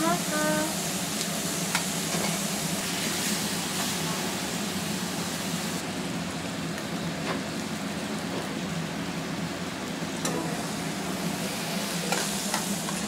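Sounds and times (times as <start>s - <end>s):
meat sizzling in a wok: 0.0s - 13.0s.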